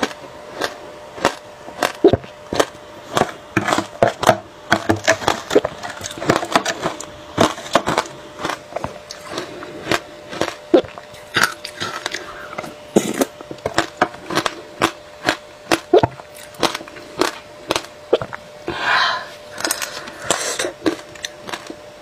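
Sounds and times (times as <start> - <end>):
crunching shaved ice: 0.0 - 18.4, 19.5 - 21.8.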